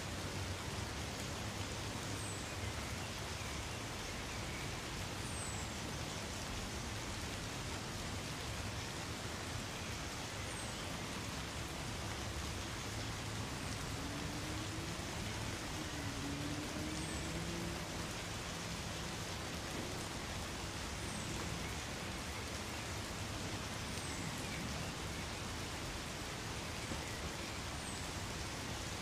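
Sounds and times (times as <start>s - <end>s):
light rain falling through trees: 0.0s - 29.0s.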